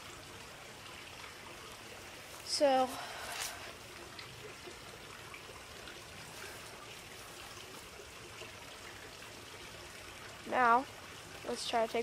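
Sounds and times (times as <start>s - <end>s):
faint outdoor background hiss: 0.0s - 12.0s.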